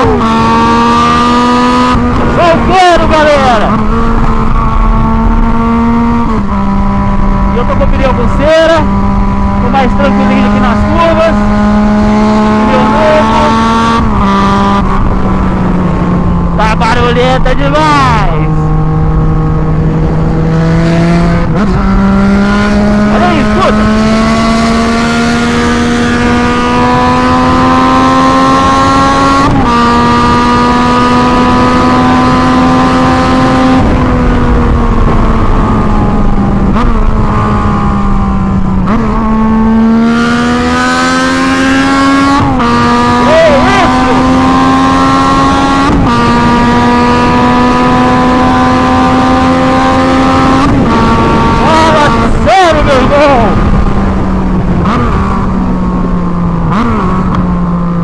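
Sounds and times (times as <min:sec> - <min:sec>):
loud motorcycle engine revving: 0:00.0 - 0:58.0
rushing wind noise: 0:00.0 - 0:58.0.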